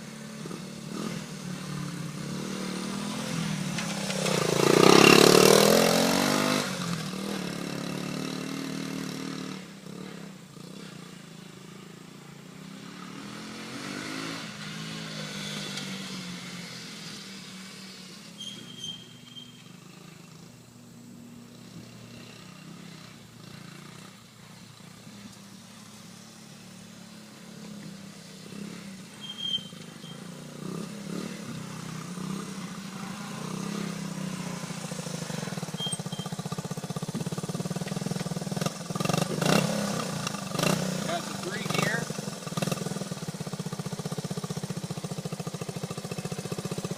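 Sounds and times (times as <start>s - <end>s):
motorcycle engine passing and revving: 0.0s - 46.9s.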